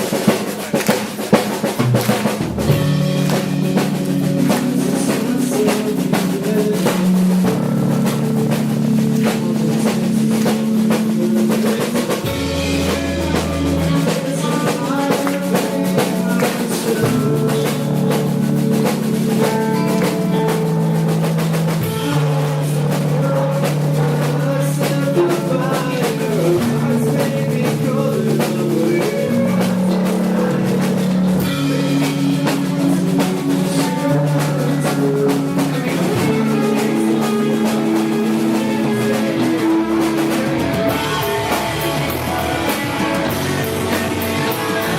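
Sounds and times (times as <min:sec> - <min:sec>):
bass notes: 0:00.0 - 0:44.9
drum kit hits: 0:00.0 - 0:44.9
guitar: 0:00.0 - 0:44.9.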